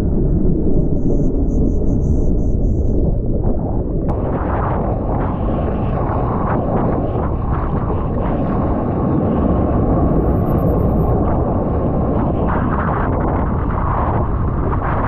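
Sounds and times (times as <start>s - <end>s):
low rumble of moving water: 0.0s - 15.0s
muffled surf and wind: 0.0s - 15.0s.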